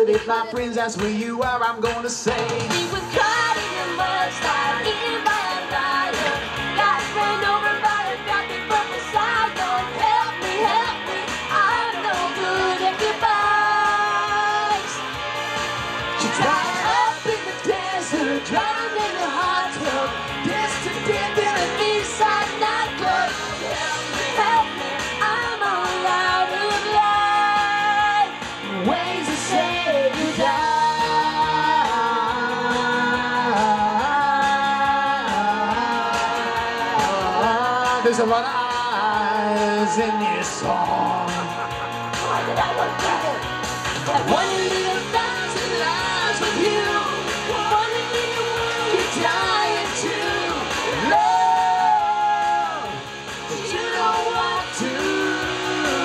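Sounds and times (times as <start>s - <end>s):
pop song with singing: 0.0s - 56.0s.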